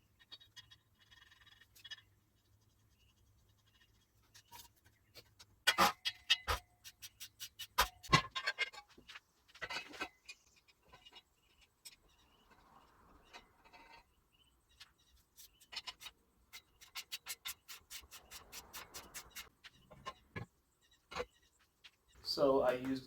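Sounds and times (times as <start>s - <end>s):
metal rubbing and scraping: 0.2s - 22.0s.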